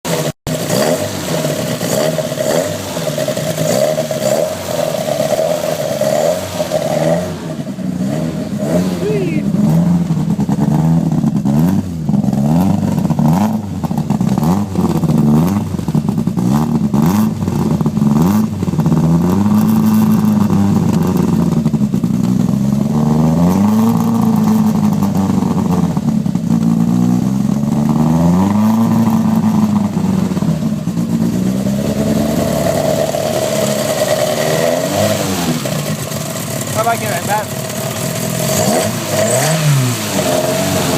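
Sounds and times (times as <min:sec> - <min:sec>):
car engine revving: 0:00.1 - 0:40.9.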